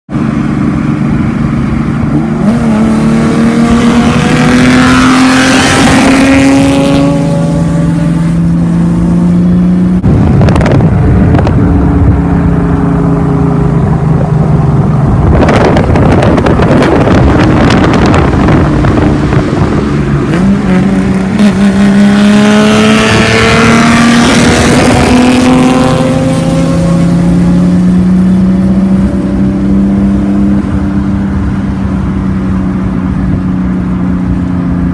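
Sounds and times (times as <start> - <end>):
car engine revving loudly: 0.2 - 34.9.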